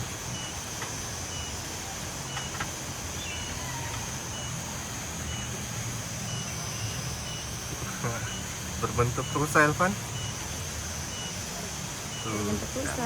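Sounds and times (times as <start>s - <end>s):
constant high hiss: 0.0s - 13.0s
steady low hum: 0.0s - 13.0s.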